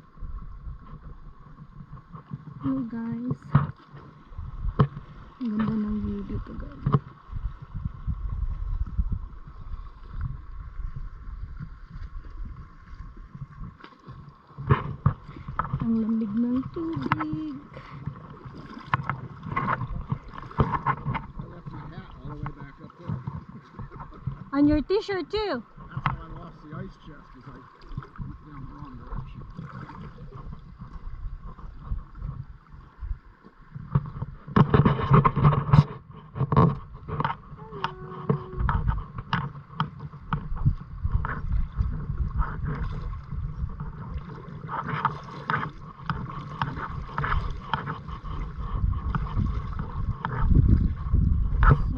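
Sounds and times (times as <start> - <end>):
paddle blades splashing: 0.0 - 51.9
water sloshing around hull: 0.0 - 51.9
wind rumbling on microphone: 0.0 - 51.9.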